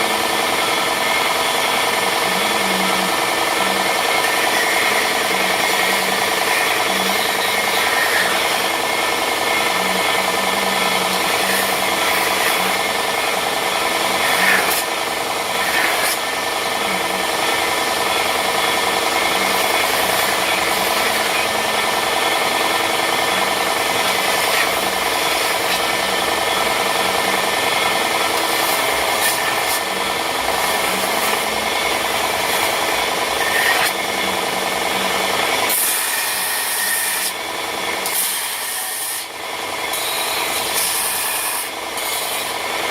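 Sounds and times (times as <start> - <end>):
power sander on wood: 0.0 - 42.9.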